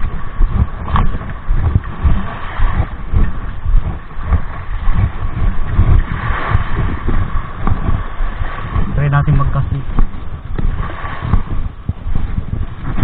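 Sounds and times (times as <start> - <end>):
small waves washing on shore: 0.0 - 13.0
wind buffeting microphone: 0.0 - 13.0.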